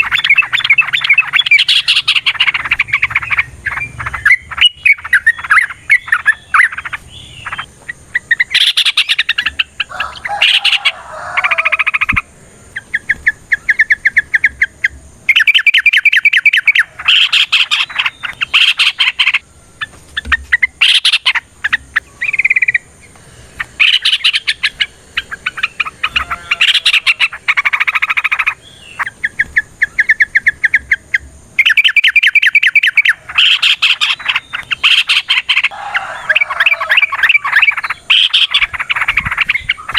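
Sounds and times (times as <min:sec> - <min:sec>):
bulbul rattling song: 0:00.0 - 0:39.9.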